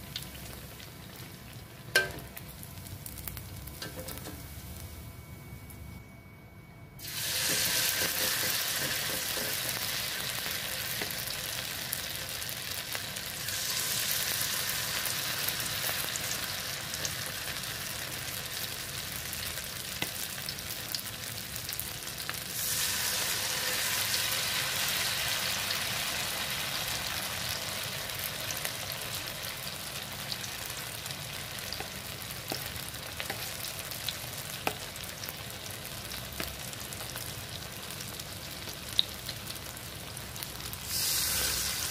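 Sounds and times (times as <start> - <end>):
batter sizzling in hot oil: 7.0 - 41.9.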